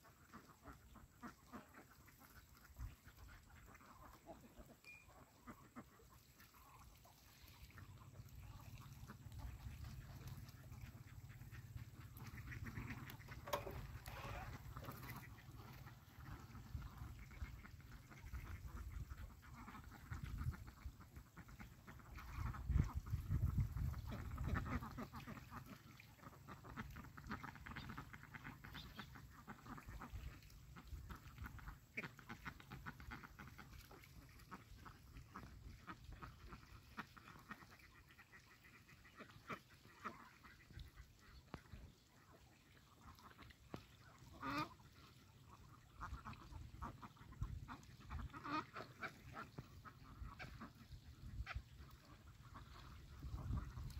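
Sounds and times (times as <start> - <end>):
ducks dabbling in water: 0.0 - 53.9
ducks quacking: 0.0 - 53.9.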